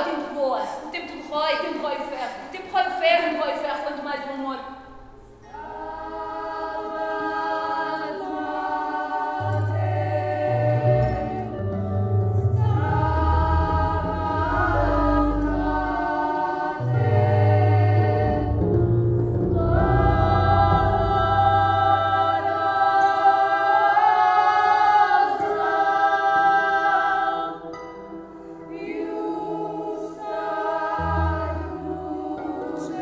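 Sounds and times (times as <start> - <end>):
choir singing held chords: 4.8 - 33.0.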